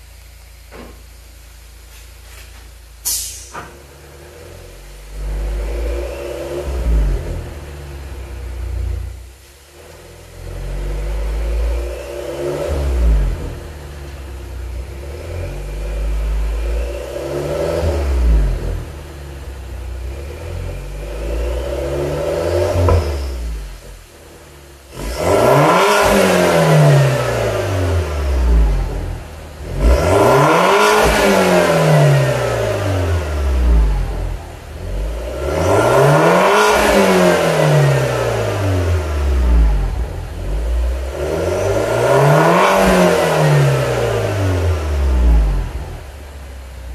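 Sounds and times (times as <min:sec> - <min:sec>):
car engine revving: 0:03.5 - 0:46.9.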